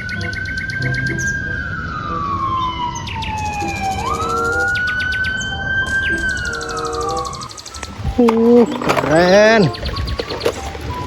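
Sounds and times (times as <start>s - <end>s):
siren-like wailing tone: 0.0s - 9.0s
fast high chirps: 0.0s - 10.4s
light background music: 0.0s - 11.0s.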